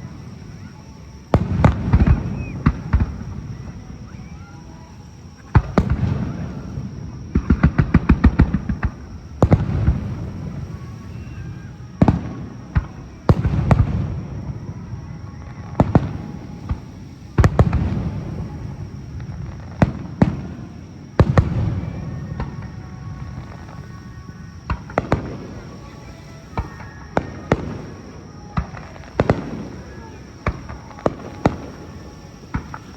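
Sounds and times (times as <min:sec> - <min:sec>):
firework bangs with rumbling echo: 0:00.0 - 0:04.9, 0:05.5 - 0:32.9.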